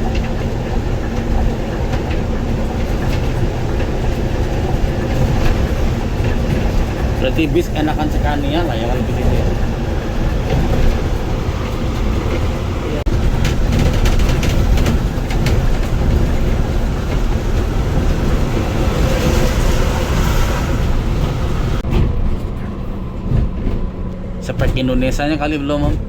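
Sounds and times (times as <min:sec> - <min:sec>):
coach engine and road rumble: 0:00.0 - 0:26.0
rattles: 0:00.0 - 0:26.0.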